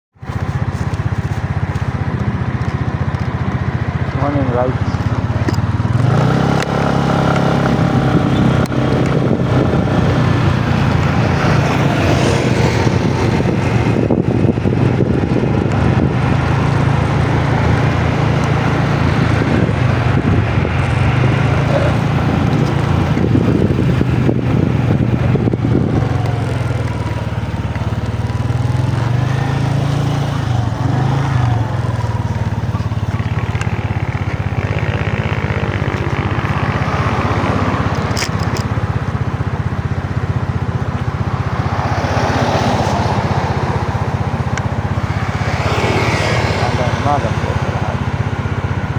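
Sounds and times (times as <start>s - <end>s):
wind and road noise: 0.1s - 48.9s
motorcycle engine running: 0.2s - 48.9s.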